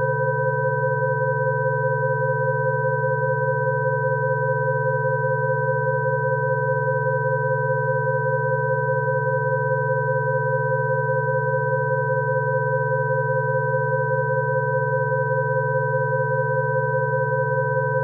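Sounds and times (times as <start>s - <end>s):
steady electronic sine tones: 0.0s - 18.0s.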